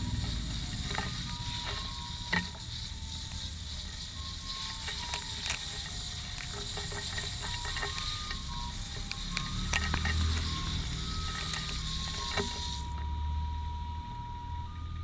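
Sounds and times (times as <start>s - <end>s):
metal chain clicking and rattling: 0.0s - 12.9s.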